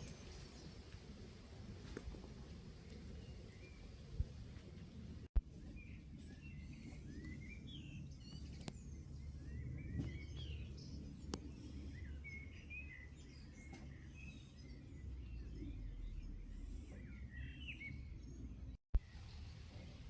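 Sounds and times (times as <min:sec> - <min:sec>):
low outdoor rumble: 0:00.0 - 0:20.0
small birds chirping: 0:02.8 - 0:19.7.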